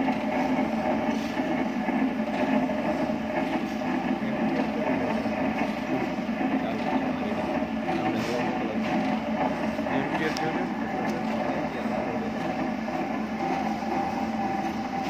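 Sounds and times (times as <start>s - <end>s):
powder mixer running: 0.0s - 15.0s.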